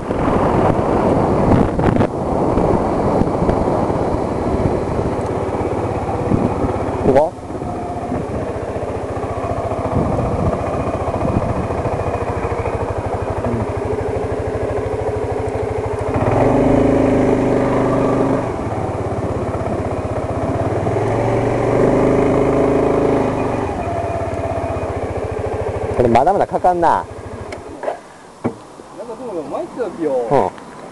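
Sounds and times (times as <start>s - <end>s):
scooter engine running: 0.0s - 28.0s.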